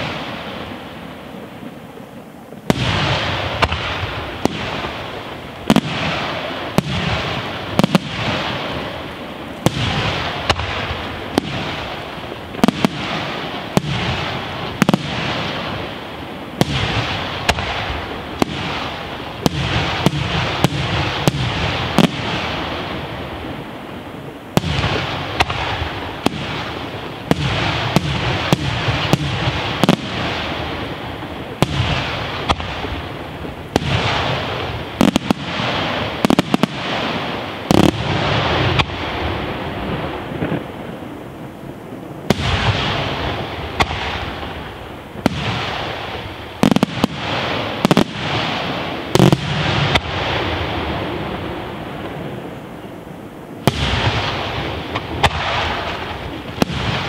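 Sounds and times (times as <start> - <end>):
firework crackling: 0.0 - 57.0.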